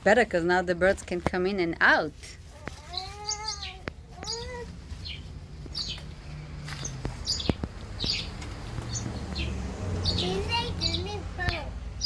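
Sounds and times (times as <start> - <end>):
small birds chirping: 2.2 - 12.0.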